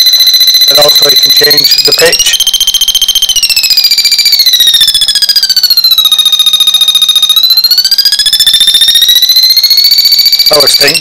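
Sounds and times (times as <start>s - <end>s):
pulsing high-pitched buzzer beep: 0.0s - 11.0s.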